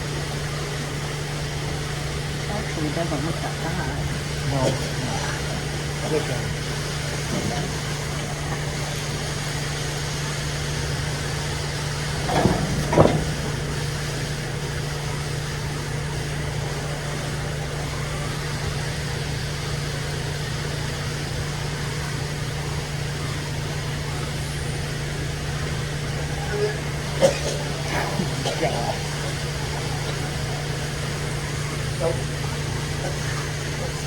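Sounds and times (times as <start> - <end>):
milking machine humming: 0.0 - 34.0.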